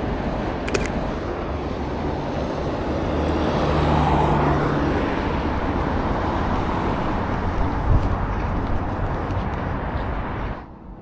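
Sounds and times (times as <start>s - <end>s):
steady traffic noise: 0.0s - 11.0s
vehicle passing: 0.0s - 11.0s.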